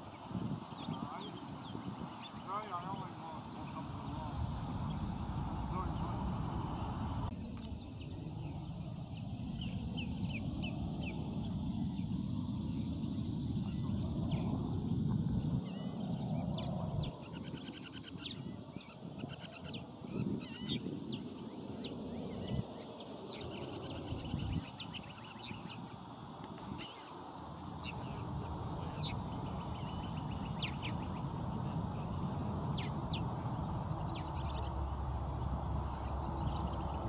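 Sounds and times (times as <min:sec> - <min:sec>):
steady low rumble: 0:00.0 - 0:17.4, 0:19.8 - 0:37.0
birds chirping: 0:00.0 - 0:37.0.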